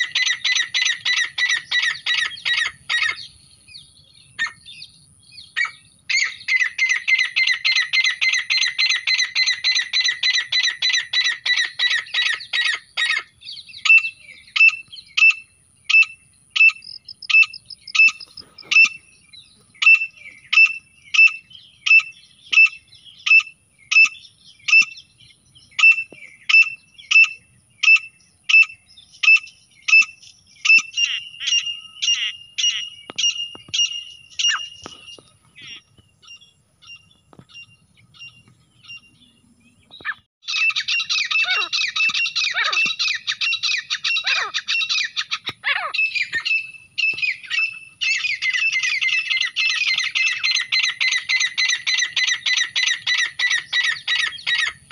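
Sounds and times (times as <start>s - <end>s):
birds calling sharp repeated notes: 0.0s - 54.9s
chorus of harsh bird calls: 0.0s - 54.9s.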